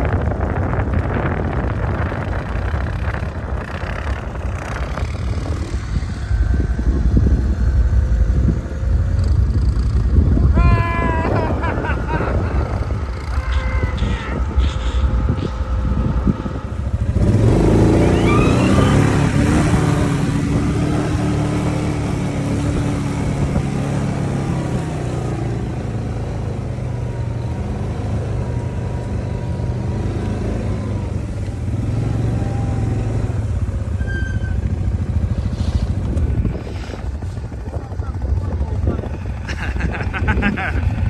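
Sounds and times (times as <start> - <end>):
quad bike engine revving: 0.0 - 41.0.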